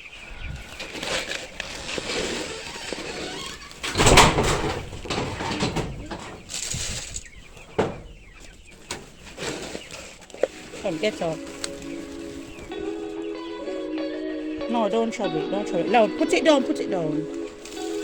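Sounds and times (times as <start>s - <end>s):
rustling: 0.0s - 15.2s, 15.8s - 18.0s
chickens clucking: 0.0s - 18.0s.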